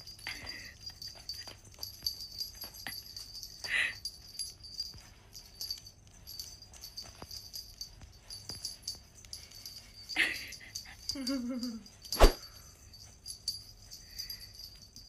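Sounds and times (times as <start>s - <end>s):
small bells jingling: 0.0s - 15.0s.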